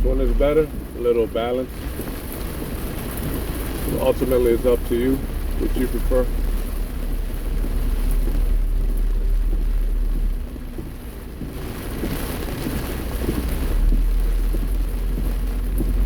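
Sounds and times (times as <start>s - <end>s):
car and road rumble: 0.0s - 16.0s
rain hissing: 0.0s - 16.0s.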